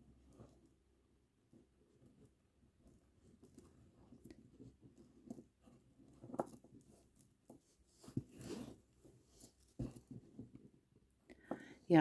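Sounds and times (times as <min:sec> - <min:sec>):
rustling: 0:00.1 - 0:10.9.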